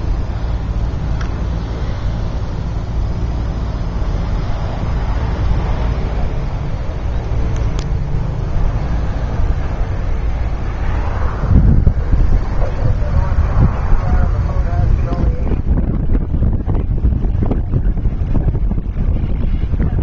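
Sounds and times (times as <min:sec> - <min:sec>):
tyre and road noise: 0:00.0 - 0:20.0
vehicle engine drone: 0:00.0 - 0:20.0.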